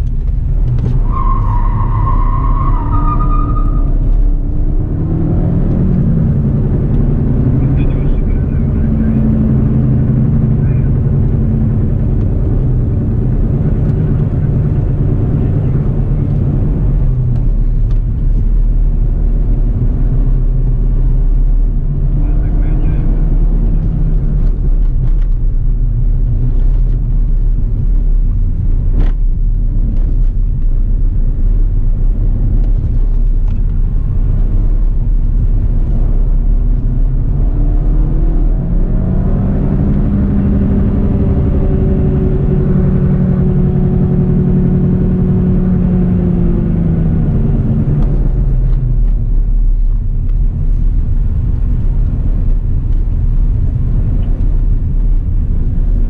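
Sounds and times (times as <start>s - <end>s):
car engine revving: 0.0s - 56.0s
road and wind rumble: 0.0s - 56.0s.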